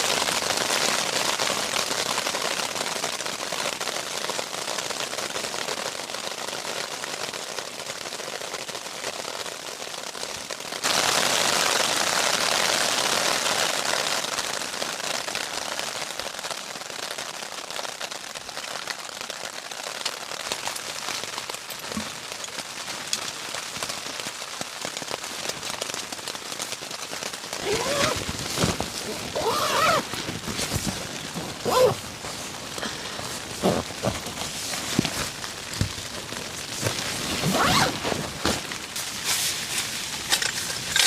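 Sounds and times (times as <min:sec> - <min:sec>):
rain falling on a tent: 0:00.0 - 0:41.0.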